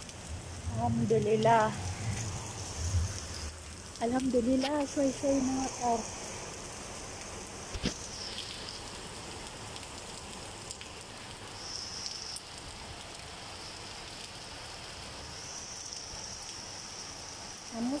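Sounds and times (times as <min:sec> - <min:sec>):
rain on wet paving: 0:00.0 - 0:18.0.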